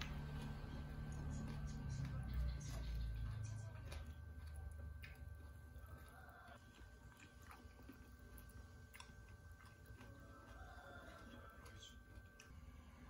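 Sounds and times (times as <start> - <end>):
soft chewing: 0.0 - 13.0.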